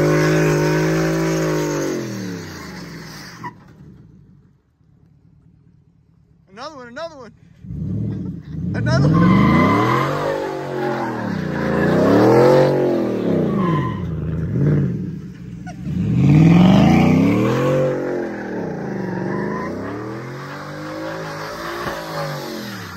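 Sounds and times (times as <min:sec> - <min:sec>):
tires spinning on wet pavement: 0:00.0 - 0:04.1, 0:07.7 - 0:22.9
truck engine revving: 0:00.0 - 0:04.1, 0:07.6 - 0:22.9.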